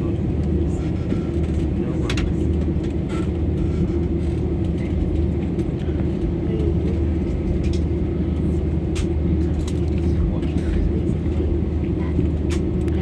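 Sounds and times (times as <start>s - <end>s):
airplane cabin rumble and hum: 0.0s - 13.0s.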